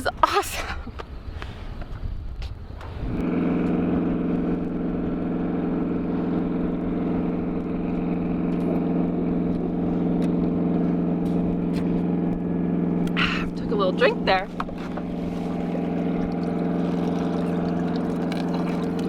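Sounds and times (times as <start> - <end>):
small engine humming: 3.1 - 19.0.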